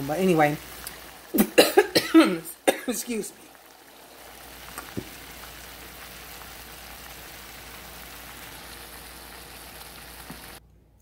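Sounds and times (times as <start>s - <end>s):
food sizzling in a pan: 0.0s - 10.6s.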